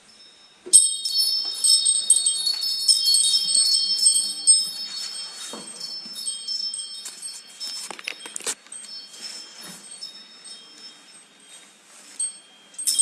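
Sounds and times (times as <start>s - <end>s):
metal chimes ringing: 0.0s - 13.0s.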